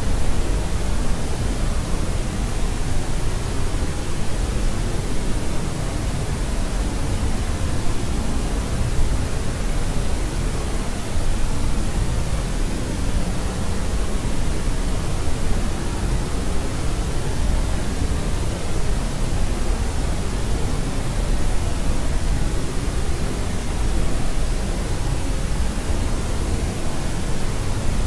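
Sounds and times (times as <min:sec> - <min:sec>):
deep white noise hiss: 0:00.0 - 0:28.0.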